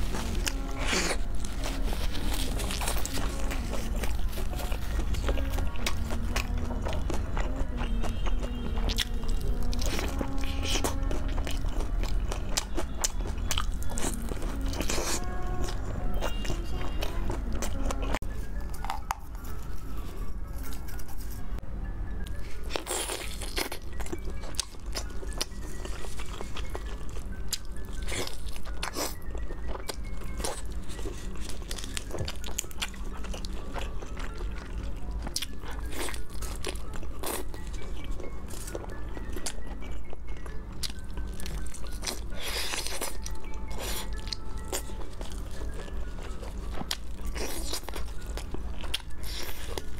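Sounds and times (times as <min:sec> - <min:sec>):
crunchy chewing: 0:00.0 - 0:21.6, 0:22.2 - 0:49.9
background music: 0:00.0 - 0:49.9.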